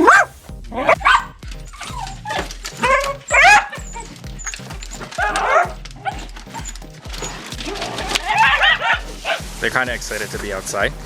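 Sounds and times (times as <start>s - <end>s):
dogs barking and yipping: 0.0s - 9.5s
music with steady beat: 0.0s - 11.0s.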